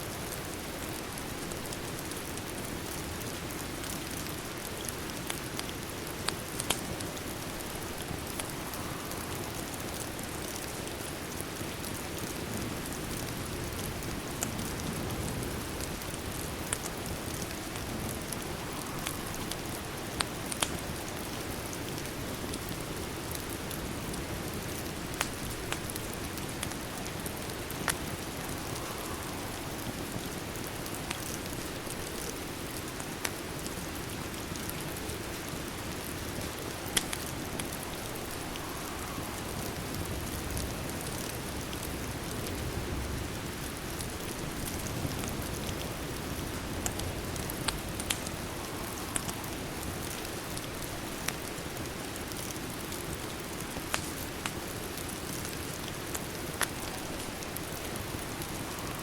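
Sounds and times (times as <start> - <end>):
steady rain: 0.0 - 59.0
wood fire popping: 0.2 - 59.0.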